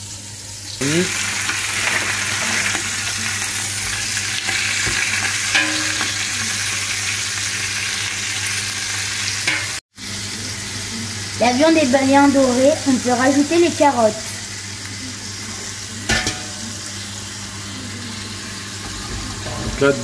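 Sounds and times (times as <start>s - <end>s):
meat sizzling in a pot: 0.0s - 20.0s.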